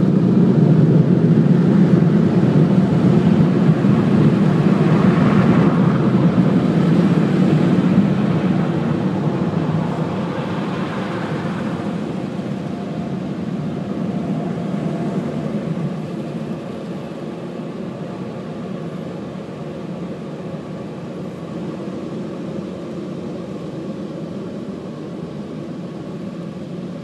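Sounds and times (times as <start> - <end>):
car wash machinery low noise: 0.0 - 27.0.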